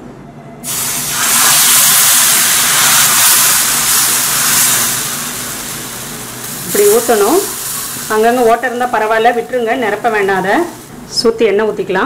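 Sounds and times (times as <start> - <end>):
batter sizzling on hot griddle: 0.6 - 10.9.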